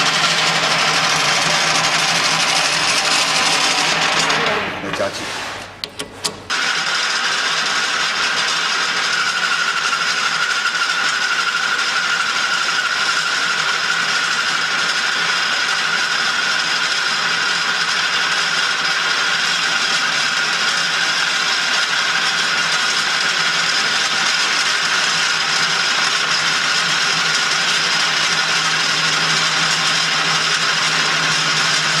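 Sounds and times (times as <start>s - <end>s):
sharpening machine running: 0.0s - 32.0s.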